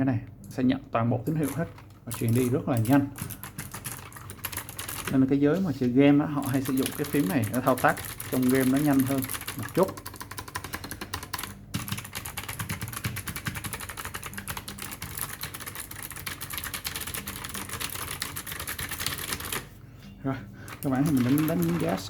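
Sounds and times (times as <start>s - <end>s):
rapid typing on clicky keyboard: 1.3s - 5.2s, 6.4s - 19.7s, 20.7s - 22.0s.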